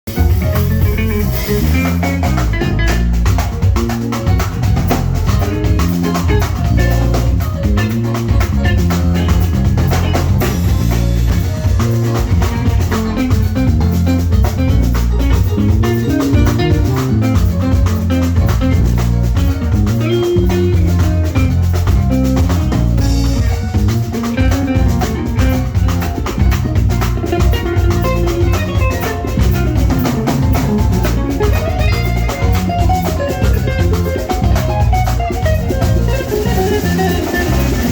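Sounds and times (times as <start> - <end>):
drum kit beat: 0.0 - 37.9
guitar: 0.0 - 37.9
keyboard melody: 0.0 - 37.9
heavy bass line: 0.1 - 37.9.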